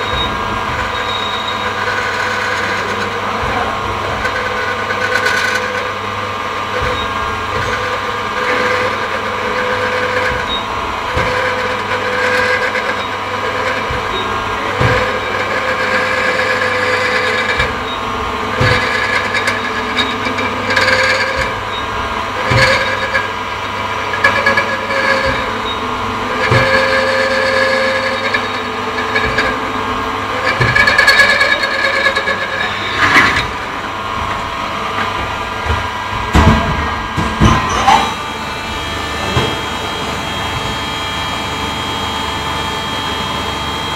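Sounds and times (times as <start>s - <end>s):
sharp knocks and clanks: 0.0s - 6.0s, 6.6s - 41.2s
machinery humming: 0.0s - 43.9s.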